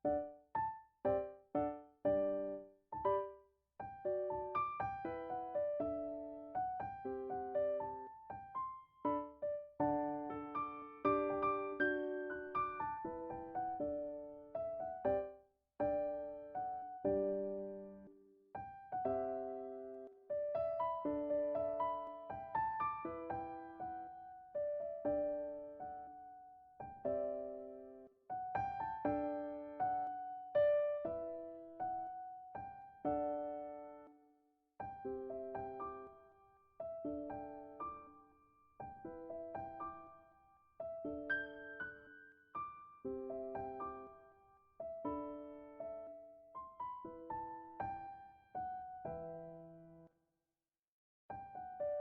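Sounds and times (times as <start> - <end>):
gentle piano playing: 0.0 - 34.2, 34.8 - 50.1, 51.3 - 52.0.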